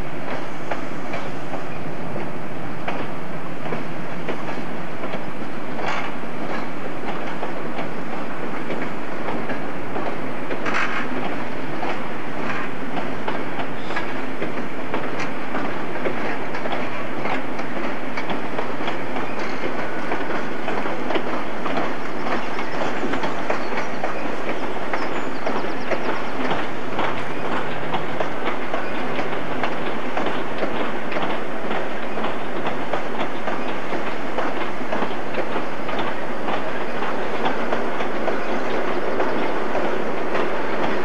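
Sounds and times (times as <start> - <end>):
train coaches passing: 0.0 - 41.0
wheel clicks over rail joints: 2.2 - 41.0.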